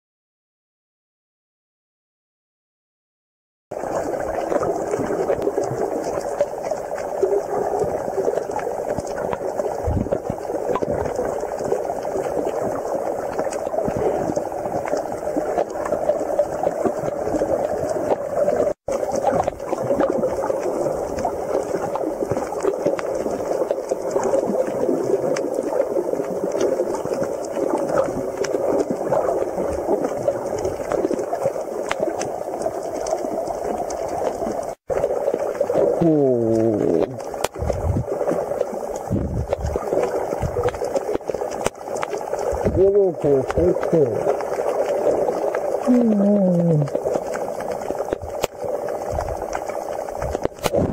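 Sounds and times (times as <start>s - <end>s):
underwater watery rush: 3.7s - 50.9s.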